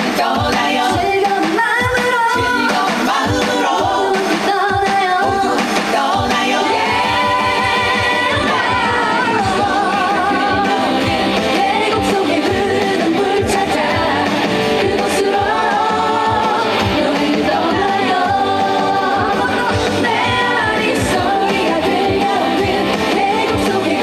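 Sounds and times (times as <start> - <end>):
backing track with steady beat: 0.0 - 24.0
woman singing with vibrato: 0.0 - 24.0.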